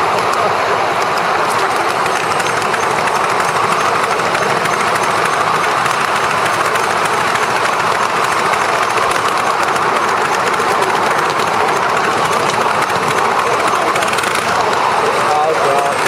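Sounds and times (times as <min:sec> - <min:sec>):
model steam train rushing on rails: 0:00.0 - 0:16.0.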